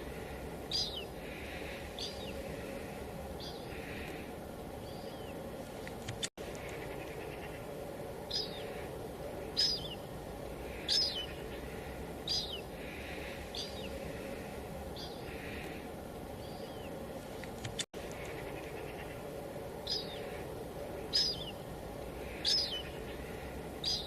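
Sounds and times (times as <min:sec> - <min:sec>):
light drizzle hiss: 0:00.0 - 0:24.0.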